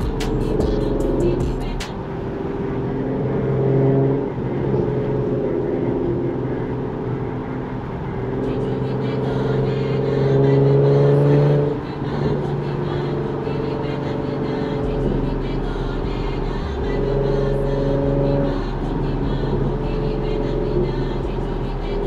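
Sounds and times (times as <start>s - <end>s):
car exhaust under acceleration: 0.0s - 22.0s.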